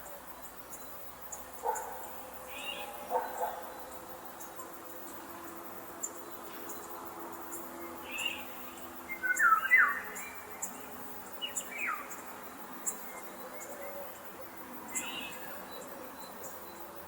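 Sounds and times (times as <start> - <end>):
high insect chirps: 0.0 - 17.0.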